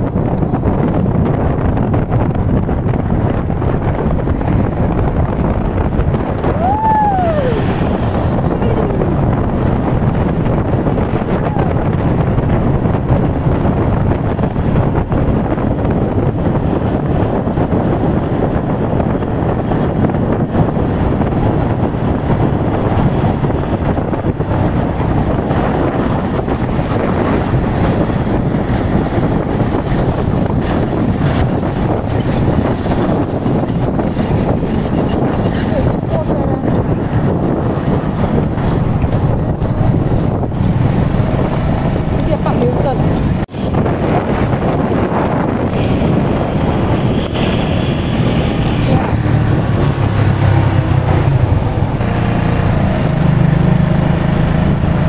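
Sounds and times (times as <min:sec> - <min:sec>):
wind rushing over microphone: 0:00.0 - 0:55.0
motorcycle engine running: 0:07.6 - 0:55.0.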